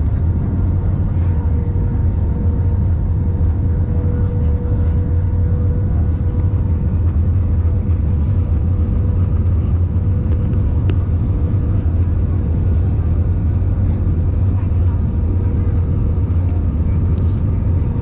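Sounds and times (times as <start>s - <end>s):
airliner engine rumble: 0.0s - 18.0s
faint constant hum: 0.0s - 18.0s.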